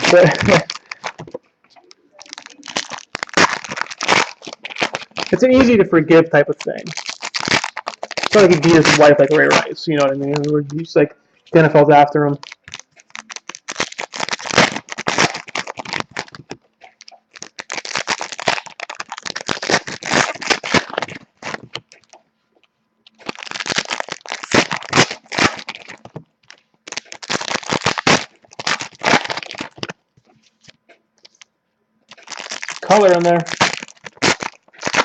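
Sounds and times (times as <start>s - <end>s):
cards rubbing and snapping: 0.0s - 5.8s, 6.6s - 10.8s, 12.3s - 22.2s, 23.1s - 31.5s, 32.1s - 35.0s
foil wrappers crinkling: 0.0s - 22.3s, 23.1s - 31.5s, 32.1s - 35.0s.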